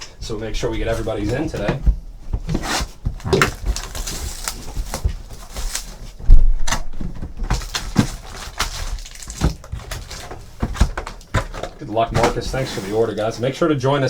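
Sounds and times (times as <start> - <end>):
card packs crinkling and rustling: 0.0 - 14.0.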